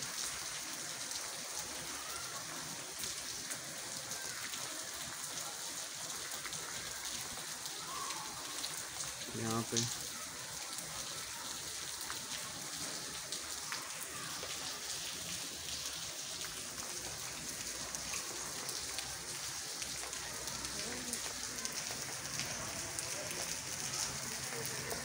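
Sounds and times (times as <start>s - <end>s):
rain falling on a flooded street: 0.0s - 25.0s.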